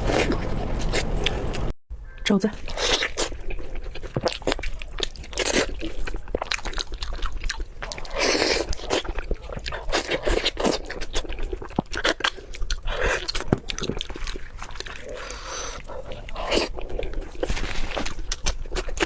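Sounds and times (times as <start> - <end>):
person crunching and chewing: 2.6 - 19.0.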